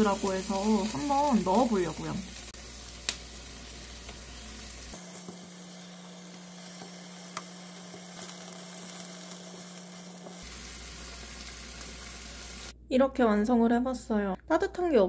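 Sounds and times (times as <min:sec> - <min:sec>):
vegetables sizzling in a frying pan: 0:00.0 - 0:12.8.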